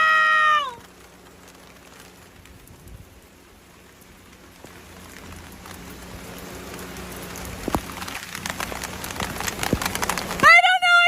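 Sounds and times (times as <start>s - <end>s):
steady rain falling: 0.0s - 11.0s
raindrop ticks: 0.1s - 11.0s.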